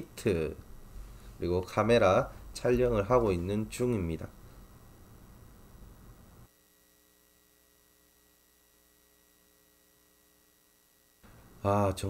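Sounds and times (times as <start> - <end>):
faint background noise: 0.0 - 12.0
faint electrical hum: 0.0 - 12.0.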